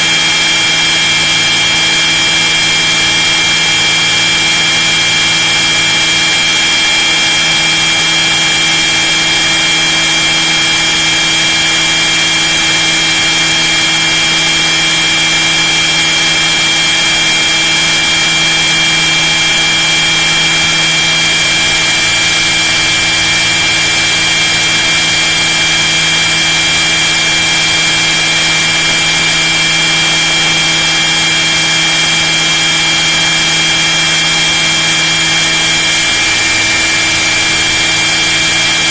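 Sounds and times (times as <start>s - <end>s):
model helicopter motor whine: 0.0s - 38.9s.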